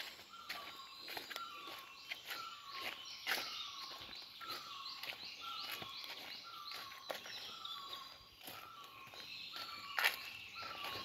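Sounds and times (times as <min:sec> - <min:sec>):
high bird chirps: 0:00.0 - 0:11.0.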